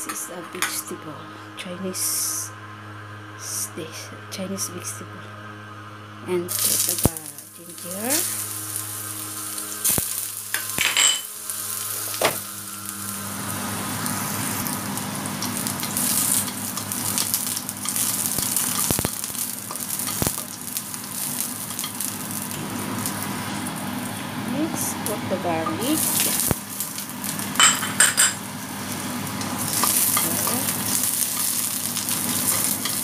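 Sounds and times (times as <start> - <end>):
ginger sizzling in hot oil: 6.5 - 33.0.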